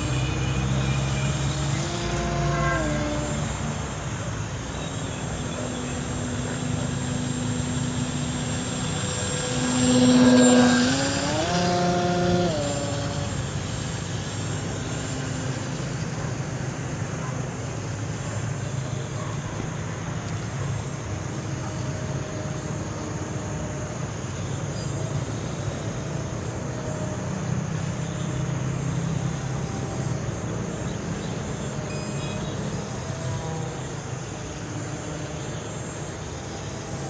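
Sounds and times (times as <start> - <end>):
rc plane motor buzzing: 0.0 - 37.0.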